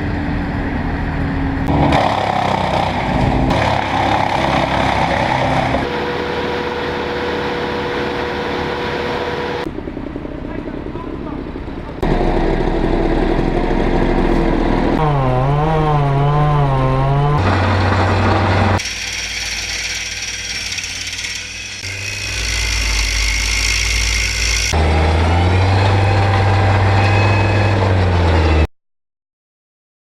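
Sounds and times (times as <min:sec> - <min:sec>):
machinery engines and power tools: 0:00.0 - 0:28.7.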